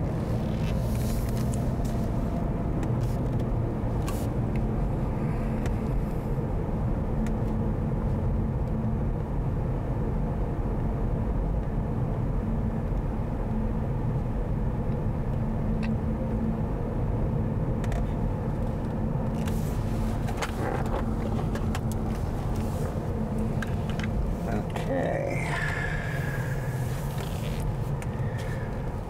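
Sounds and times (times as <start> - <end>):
car road and engine rumble: 0.0 - 29.0
low steady hum: 0.0 - 29.0.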